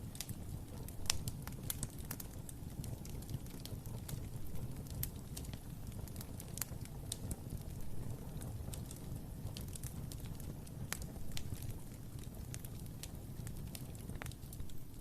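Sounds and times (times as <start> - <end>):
fire pops and snaps: 0.0 - 15.0
flame rumbling: 0.0 - 15.0.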